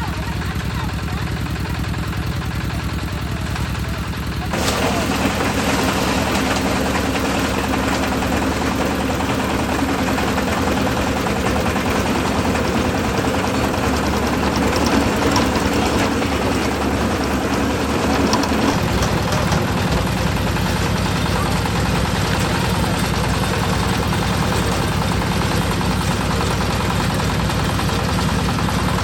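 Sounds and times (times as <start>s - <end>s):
concrete mixer engine running: 0.0s - 29.0s.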